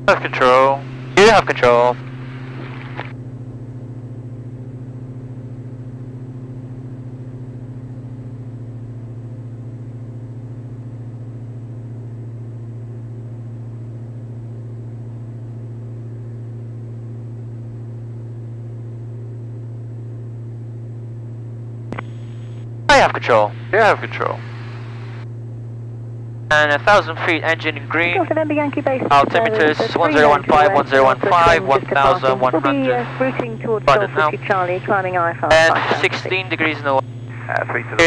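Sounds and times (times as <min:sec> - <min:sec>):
airplane engines droning: 0:00.0 - 0:38.0.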